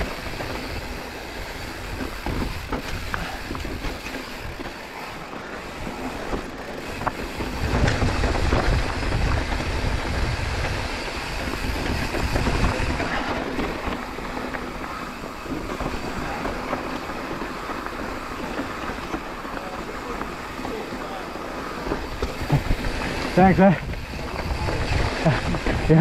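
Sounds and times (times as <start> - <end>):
bike rattling over rocky trail: 0.0 - 26.0
sharp bike clicks: 0.0 - 26.0.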